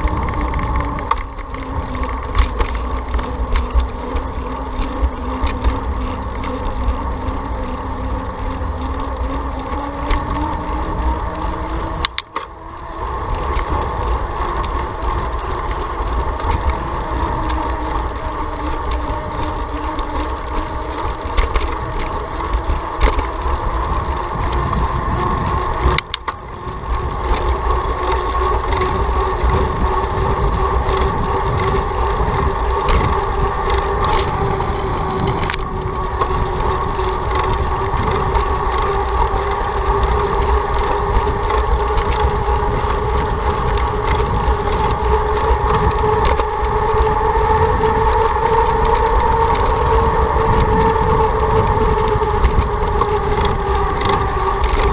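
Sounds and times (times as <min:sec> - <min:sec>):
hum rising in pitch: 0:00.0 - 0:54.9
wind and road noise: 0:00.0 - 0:54.9.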